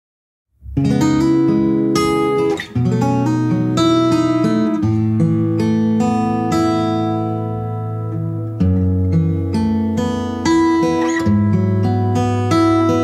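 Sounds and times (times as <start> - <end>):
fingerstyle acoustic guitar: 0.6 - 13.0.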